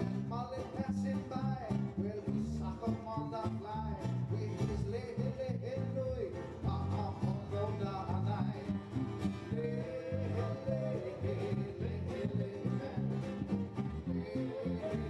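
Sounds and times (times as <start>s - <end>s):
acoustic guitar strumming: 0.0s - 15.0s
man singing: 0.0s - 15.0s.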